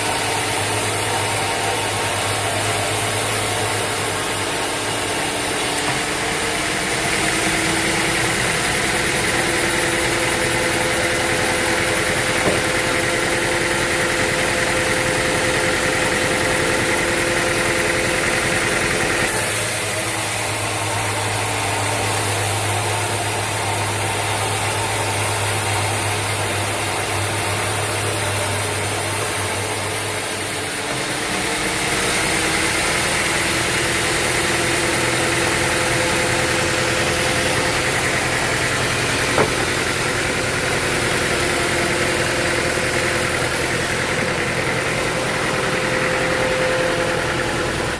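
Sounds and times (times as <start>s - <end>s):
sawmill machinery hum and whine: 0.0s - 47.9s.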